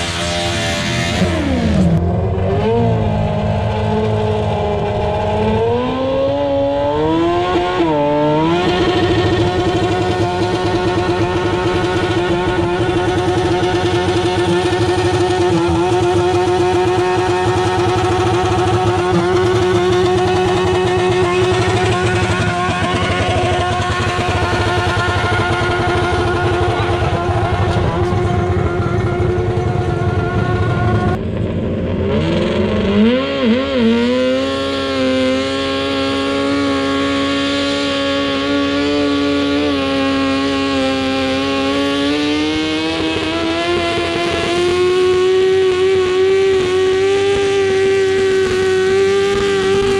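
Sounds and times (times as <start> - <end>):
engine revving: 0.0 - 49.9
tractor engine running hard: 0.0 - 49.9.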